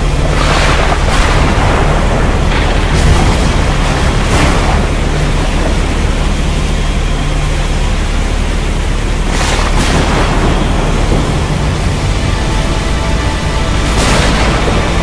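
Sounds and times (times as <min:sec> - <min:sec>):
low rumble: 0:00.0 - 0:15.0
rushing storm-like noise: 0:00.0 - 0:15.0.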